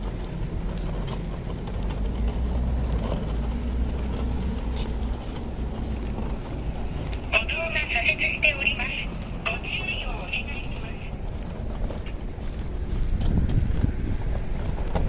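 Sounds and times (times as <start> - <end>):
low rumble of city street: 0.0 - 15.0.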